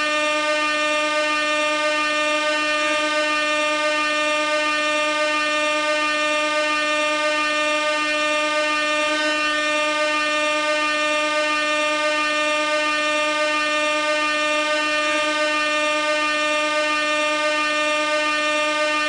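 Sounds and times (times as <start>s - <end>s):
air horn continuous note: 0.0s - 19.0s.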